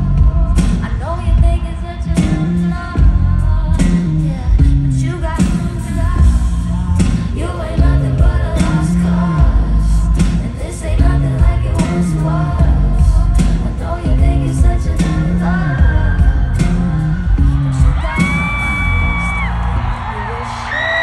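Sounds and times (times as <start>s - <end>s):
live band with heavy bass: 0.0s - 20.2s
woman singing into microphone: 0.0s - 21.0s.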